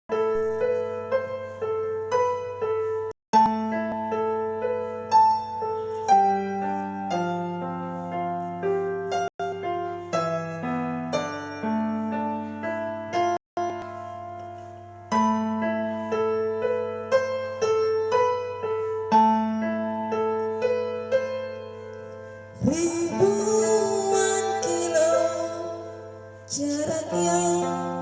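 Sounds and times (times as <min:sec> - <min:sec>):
slow electric piano music: 0:00.1 - 0:28.0.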